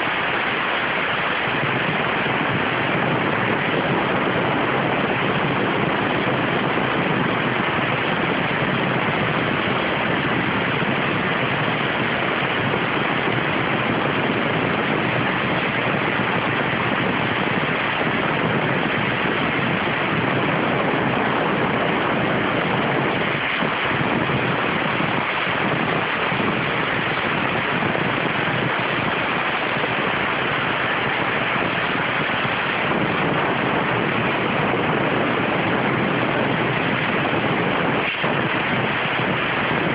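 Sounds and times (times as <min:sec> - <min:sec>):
high-pressure water jet hissing: 0:00.0 - 0:39.9.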